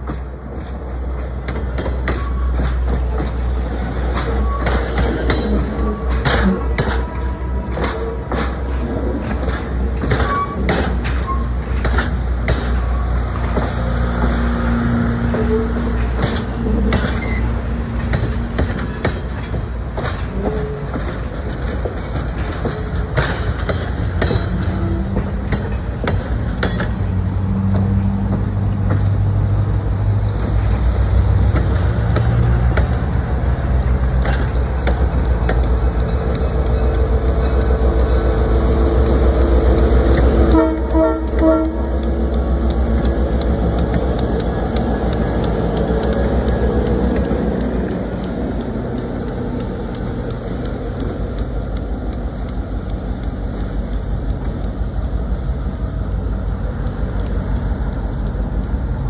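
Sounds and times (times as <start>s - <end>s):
train clanks and knocks: 0.0s - 59.0s
train engine rumble: 0.0s - 59.0s.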